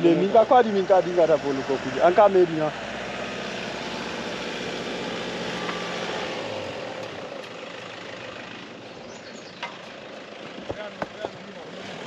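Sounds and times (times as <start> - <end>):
pickup engine crawling through mud: 0.0 - 12.0.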